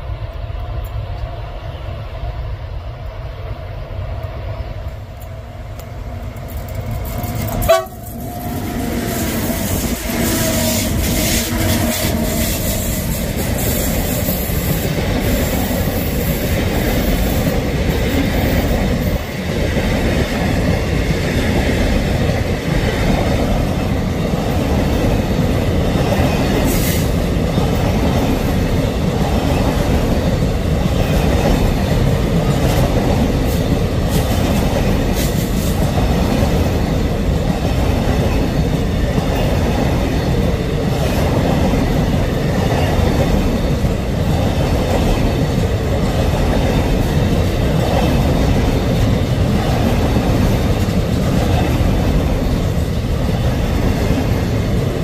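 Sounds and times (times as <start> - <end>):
electric locomotive hum: 0.0 - 55.0
wagons rumbling and clattering on rails: 5.1 - 55.0.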